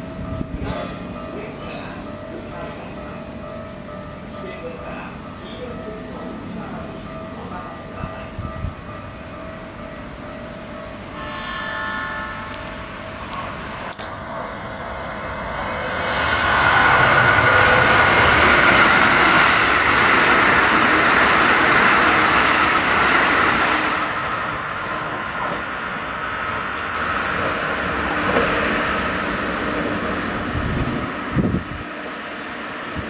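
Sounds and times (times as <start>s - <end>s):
train passing at speed: 0.0s - 33.0s.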